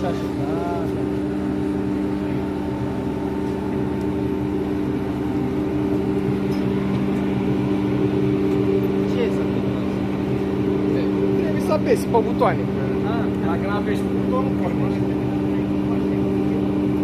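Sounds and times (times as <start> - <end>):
heavy machinery drone: 0.0 - 17.0.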